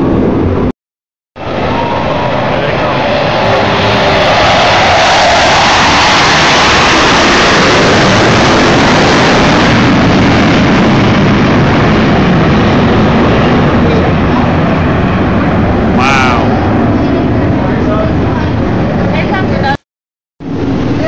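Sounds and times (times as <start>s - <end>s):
jet roar overhead: 0.0s - 0.7s, 1.4s - 19.8s, 20.4s - 21.0s.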